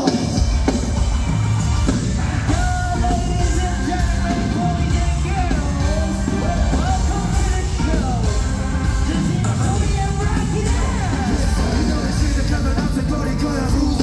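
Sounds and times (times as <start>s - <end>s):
live rock band playing: 0.0s - 14.0s
man singing and shouting: 2.2s - 14.0s.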